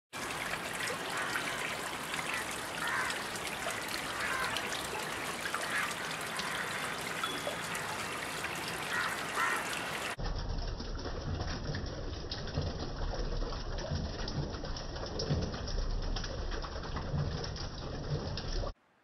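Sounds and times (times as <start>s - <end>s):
water trickling and splashing over stones: 0.1s - 18.8s.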